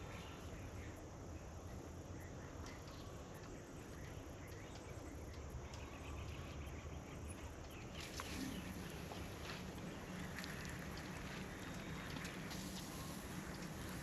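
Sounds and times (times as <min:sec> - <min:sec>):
faint chirps: 0:00.0 - 0:14.0.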